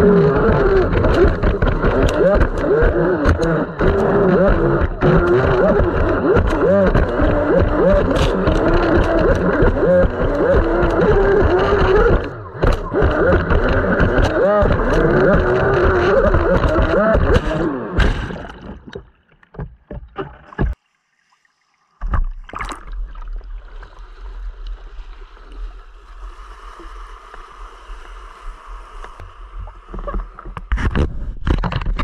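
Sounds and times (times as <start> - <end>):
water sloshing and gurgling: 0.0 - 32.0.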